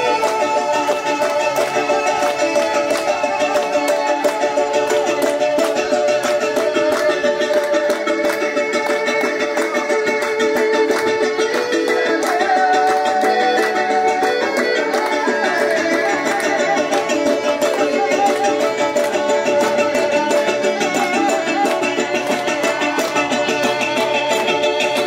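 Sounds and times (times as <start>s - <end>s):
string instrument dance music: 0.0s - 25.0s.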